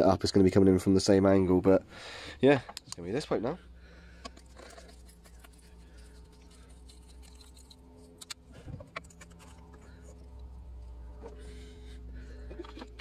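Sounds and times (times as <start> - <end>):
faint background hum: 0.0 - 13.0.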